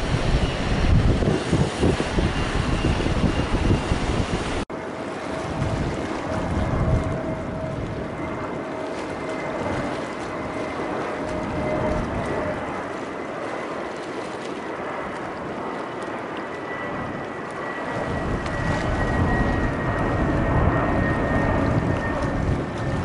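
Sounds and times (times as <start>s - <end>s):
jet engines passing overhead: 0.0s - 23.0s.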